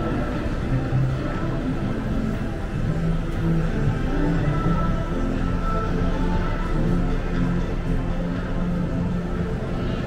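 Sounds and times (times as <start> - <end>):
music with long held notes: 0.0 - 10.0.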